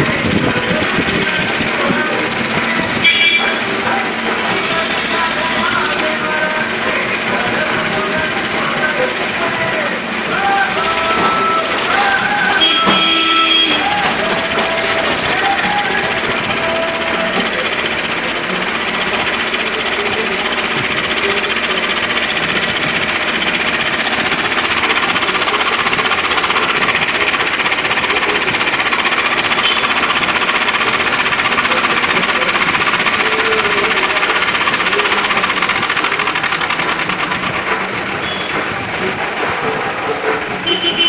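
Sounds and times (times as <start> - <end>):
excavator diesel engine clattering: 0.0 - 41.0
hydraulics straining: 0.0 - 41.0.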